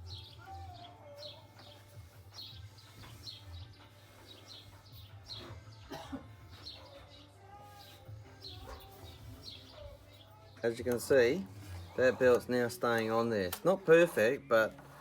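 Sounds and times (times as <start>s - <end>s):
small bird chirping: 0.0s - 12.1s.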